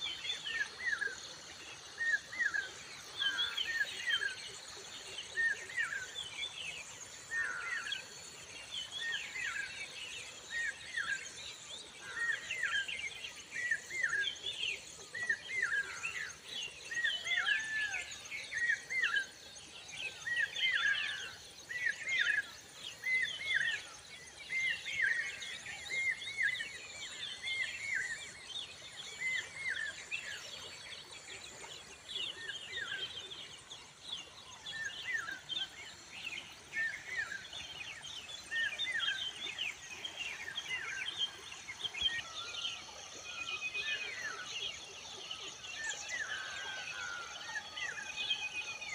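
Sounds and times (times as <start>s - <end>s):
birds chirping chorus: 0.0s - 48.9s.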